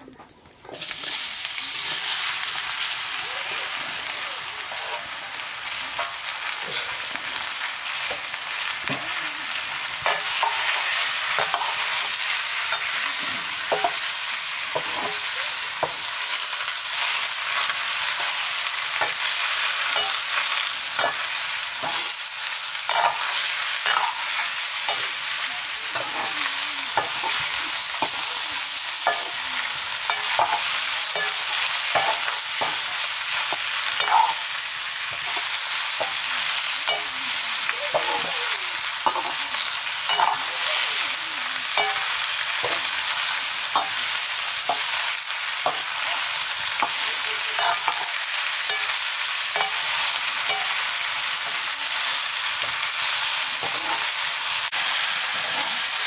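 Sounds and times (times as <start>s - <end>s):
pumpkin sizzling in a wok: 0.0s - 56.0s.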